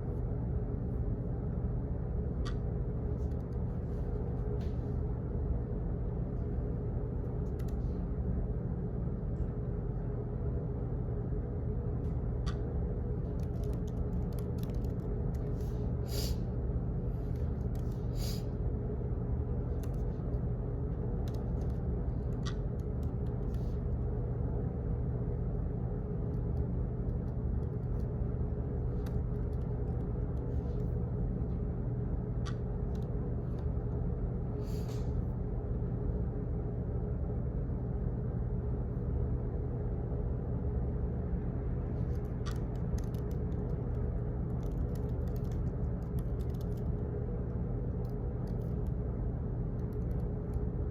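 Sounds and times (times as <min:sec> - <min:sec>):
low ventilation hum: 0:00.0 - 0:50.9.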